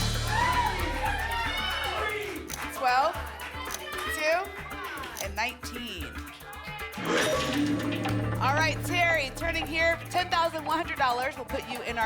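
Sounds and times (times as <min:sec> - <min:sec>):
game show music with bass line: 0:00.0 - 0:12.0.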